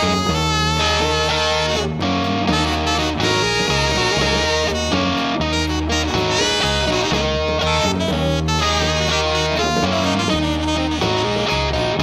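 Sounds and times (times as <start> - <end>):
rock band playing live: 0.0 - 12.0
saxophone: 0.0 - 12.0.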